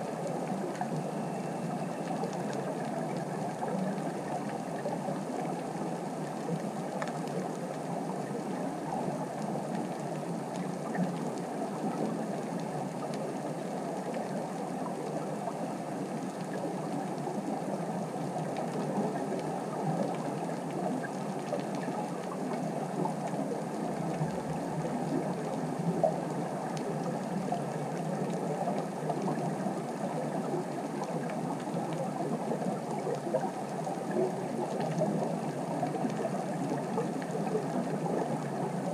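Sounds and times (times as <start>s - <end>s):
underwater rushing noise: 0.1s - 38.9s
faint ticks: 0.2s - 38.9s.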